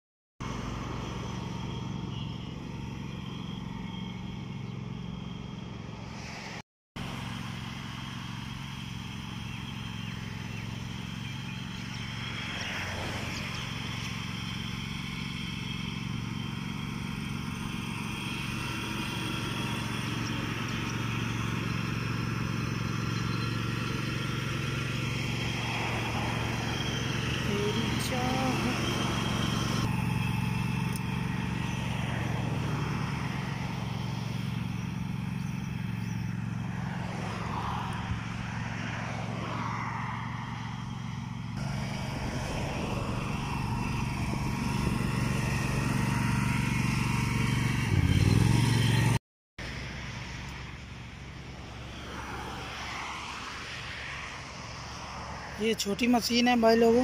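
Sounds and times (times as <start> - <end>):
ride-on lawn mower engine: 0.4 - 57.0.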